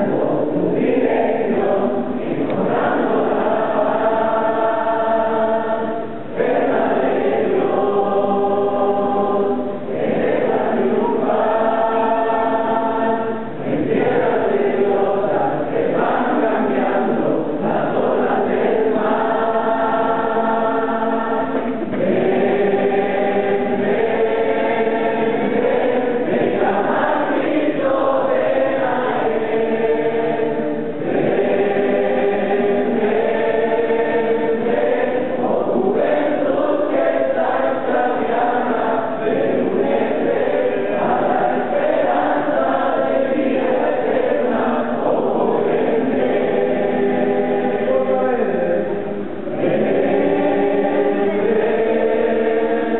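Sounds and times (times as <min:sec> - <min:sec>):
group singing a hymn: 0:00.0 - 0:52.9.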